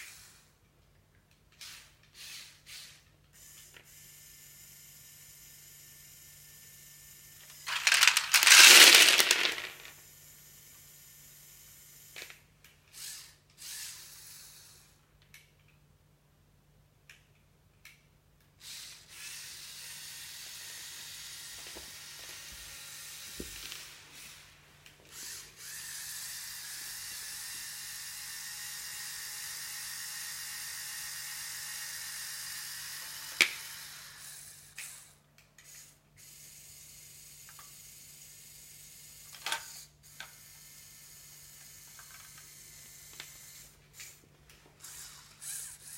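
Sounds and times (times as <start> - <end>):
small electric motors whirring: 0.0 - 0.5, 1.5 - 15.0, 18.6 - 24.5, 25.1 - 45.9.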